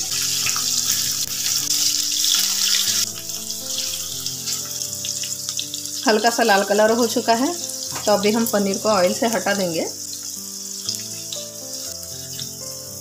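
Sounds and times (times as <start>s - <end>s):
food sizzling in hot oil: 0.0s - 13.0s
soft background music: 0.0s - 13.0s.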